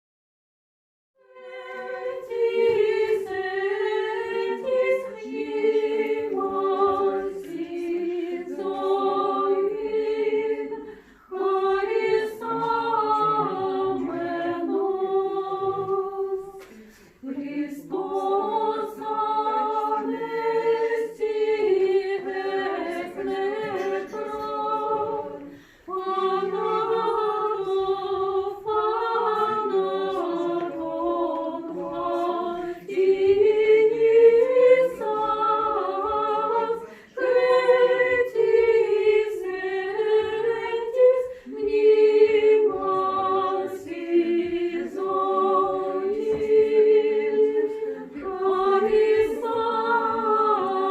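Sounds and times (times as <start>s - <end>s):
church choir chanting: 1.2s - 50.9s.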